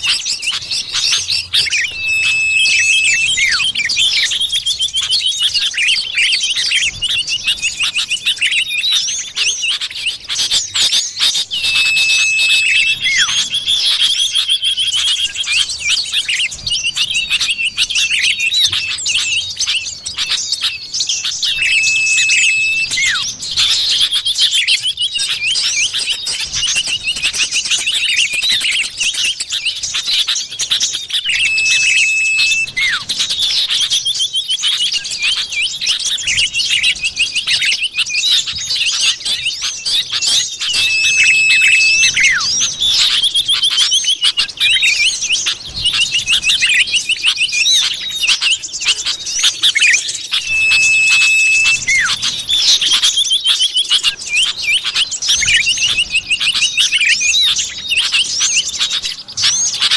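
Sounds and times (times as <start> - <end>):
bird chirping and trilling: 0.0 - 59.9
long level bird whistle: 0.0 - 59.9.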